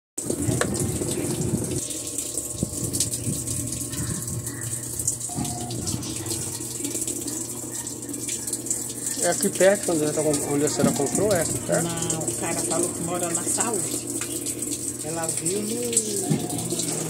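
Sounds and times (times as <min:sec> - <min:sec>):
washing machine hum: 0:00.2 - 0:17.0
washing machine water sloshing: 0:00.2 - 0:17.0.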